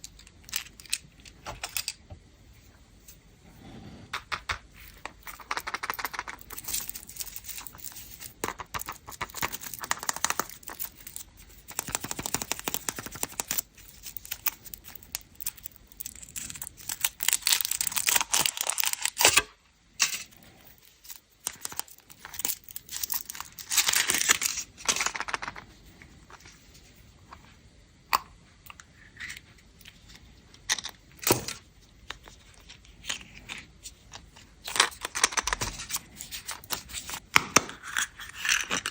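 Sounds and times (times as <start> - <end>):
candy wrappers crinkling: 0.0 - 2.0, 4.8 - 27.4, 28.7 - 38.9.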